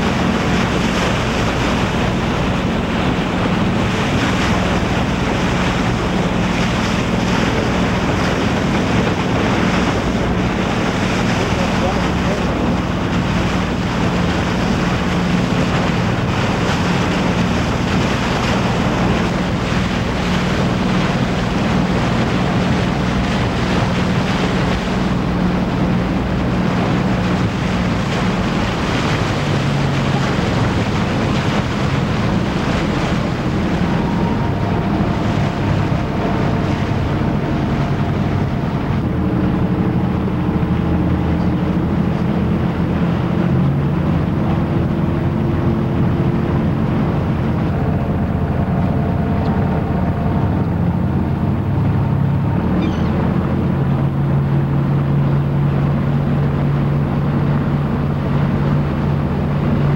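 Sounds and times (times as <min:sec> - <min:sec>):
boat engine humming: 0:00.0 - 0:59.9
passing boat engine: 0:00.0 - 0:59.9
water wash: 0:00.0 - 0:59.9
wind buffeting microphone: 0:00.0 - 0:59.9.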